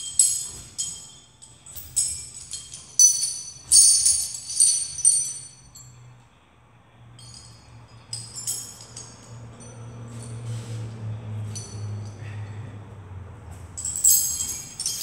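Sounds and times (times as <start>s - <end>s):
metallic jingling and clinking: 0.0s - 6.2s, 7.1s - 12.9s, 13.5s - 15.0s.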